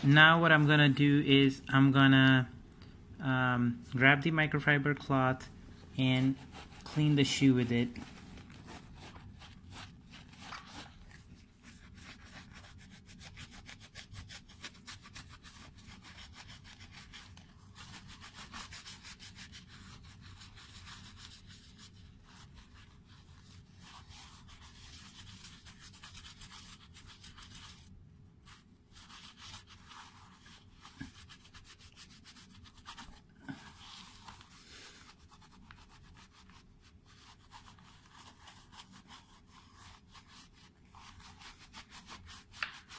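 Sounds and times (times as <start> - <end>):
cloth rubbing on a shoe: 0.0 - 1.6, 5.9 - 42.9.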